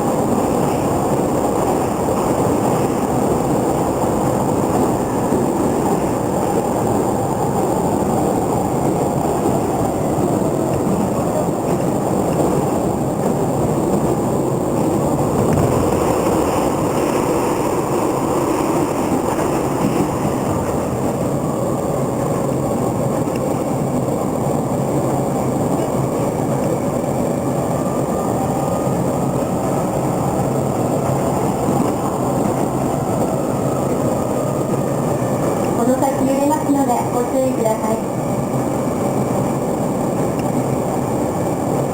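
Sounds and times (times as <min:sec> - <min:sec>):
train wheels rumbling on rails: 0:00.0 - 0:41.9.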